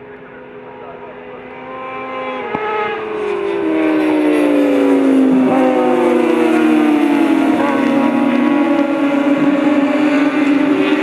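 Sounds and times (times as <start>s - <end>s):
racing motorcycles at high revs: 0.1s - 11.0s.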